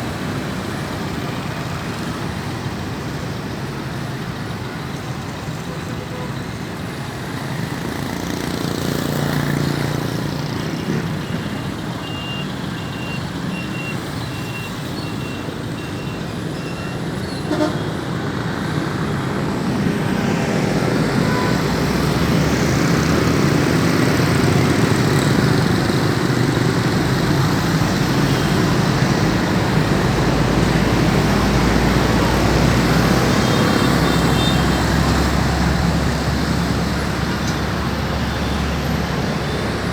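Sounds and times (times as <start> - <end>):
road and traffic noise: 0.0 - 39.9.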